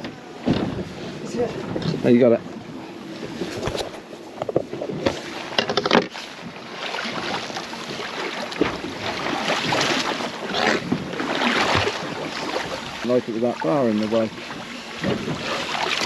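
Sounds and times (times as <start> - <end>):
knocks and rattles on boat deck: 0.0 - 16.0.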